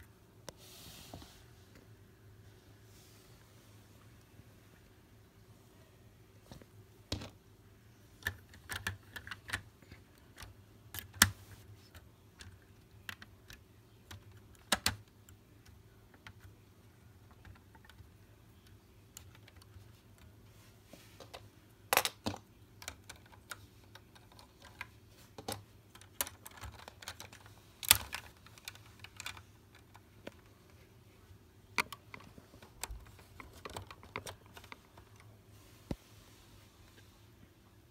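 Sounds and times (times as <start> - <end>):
faint low hum: 0.0 - 37.9.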